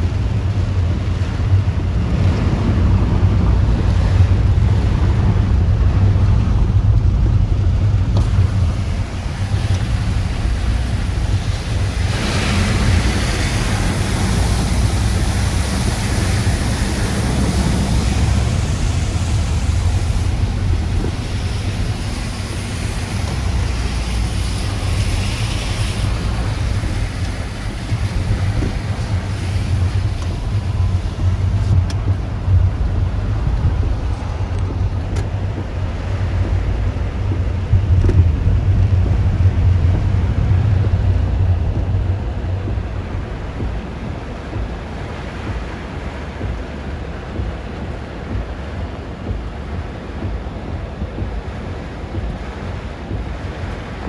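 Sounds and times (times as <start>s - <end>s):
driving rain hiss: 0.0s - 54.0s
wind buffeting microphone: 0.0s - 54.0s.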